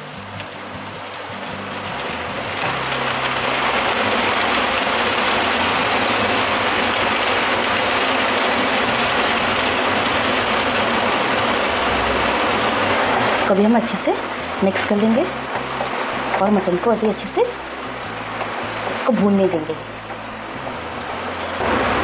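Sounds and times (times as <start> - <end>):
hot oil sizzling in a pan: 0.0 - 22.0.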